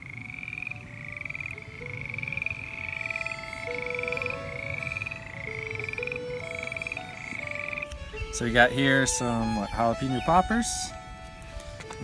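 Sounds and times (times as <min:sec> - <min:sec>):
frogs or insects trilling: 0:00.0 - 0:10.6.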